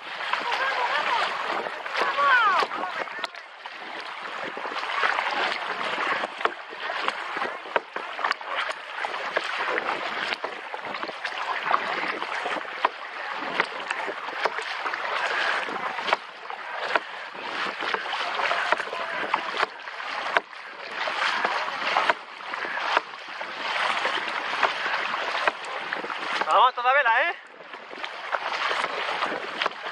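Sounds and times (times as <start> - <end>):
paddle slaps and knocks: 0.0 - 29.9
water splashing around kayak: 0.0 - 29.9.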